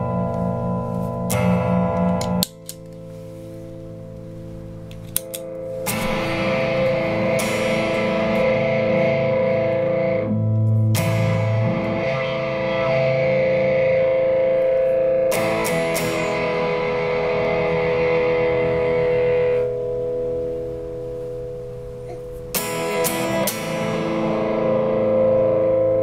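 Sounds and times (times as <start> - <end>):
electric guitar chords ringing: 0.0 - 26.0.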